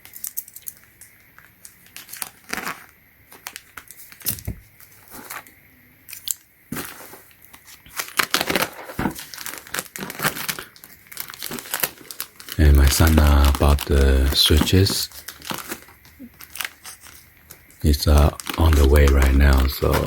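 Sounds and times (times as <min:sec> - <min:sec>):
packaging crinkling and tearing: 0:00.0 - 0:05.5, 0:06.1 - 0:20.0.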